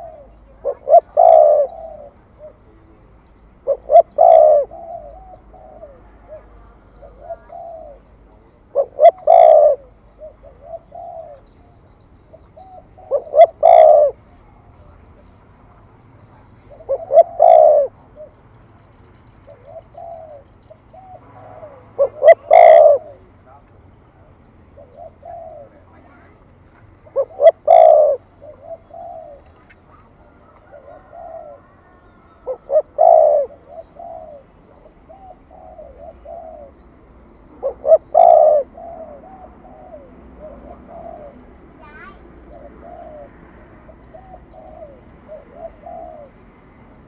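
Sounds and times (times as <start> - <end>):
dove cooing: 0.0 - 15.0, 15.6 - 18.4, 19.4 - 47.0.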